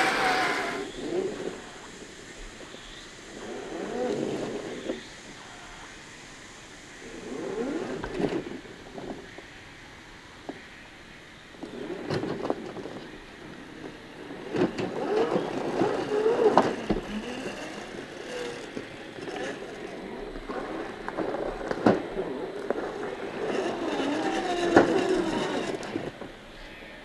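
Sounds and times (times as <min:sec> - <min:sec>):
rc truck electric motors whining: 0:00.0 - 0:06.0, 0:07.0 - 0:09.3, 0:11.5 - 0:26.8.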